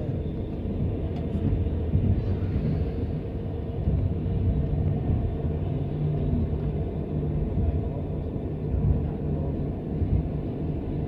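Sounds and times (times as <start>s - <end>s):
train carriage low rumble: 0.0s - 11.0s.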